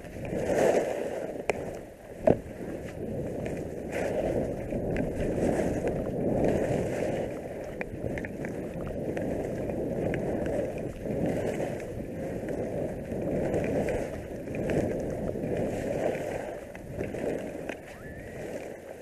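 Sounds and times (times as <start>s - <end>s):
skis scraping over snow: 0.0s - 19.0s
wind on microphone: 0.0s - 19.0s.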